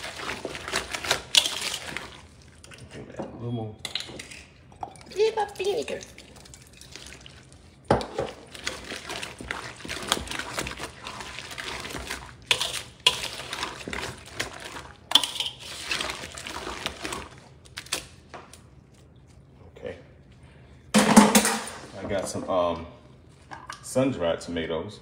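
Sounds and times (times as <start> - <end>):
wet squelching stirring: 0.0 - 3.4, 4.1 - 20.9.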